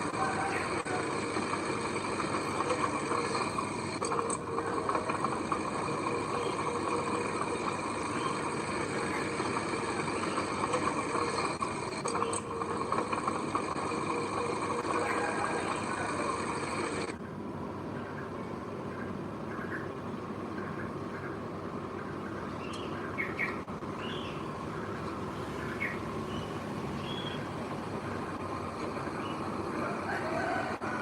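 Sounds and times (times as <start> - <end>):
heavy machine engine running: 0.0 - 17.2, 20.7 - 31.0.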